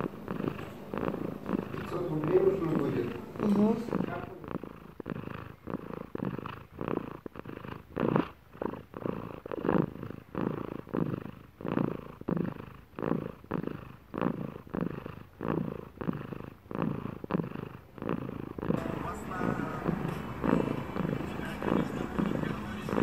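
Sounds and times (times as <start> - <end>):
cat purring: 0.0 - 23.0.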